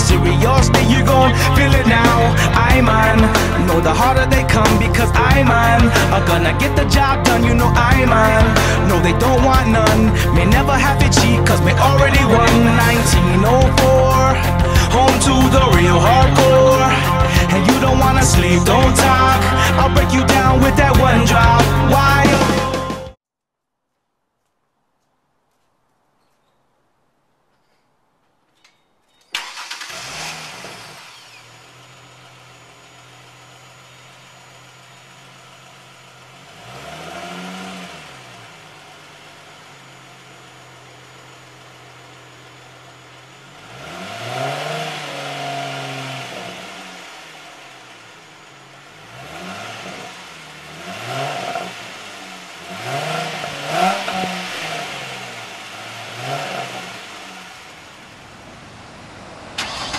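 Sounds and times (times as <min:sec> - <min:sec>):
car engine revving: 0:00.0 - 0:23.2, 0:29.4 - 0:59.9
car engine starting and idling: 0:00.0 - 0:23.2, 0:29.2 - 0:59.9.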